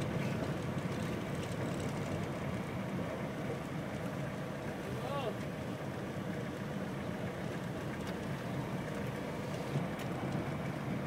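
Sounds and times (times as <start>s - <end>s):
road noise on dirt road: 0.0s - 11.0s.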